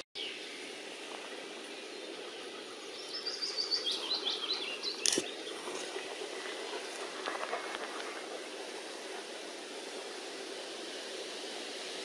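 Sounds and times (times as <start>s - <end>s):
outdoor background hiss: 0.2s - 12.0s.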